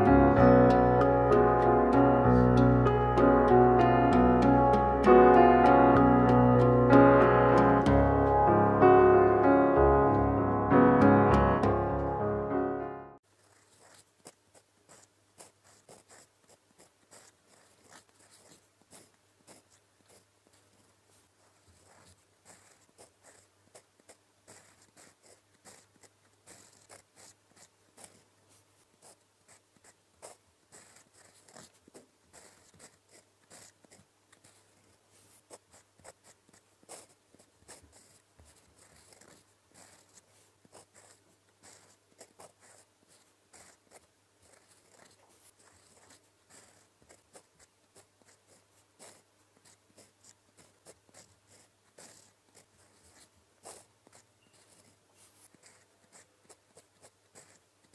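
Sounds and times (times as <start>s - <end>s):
pen nib scratching on paper: 0.0s - 8.3s, 13.2s - 57.9s.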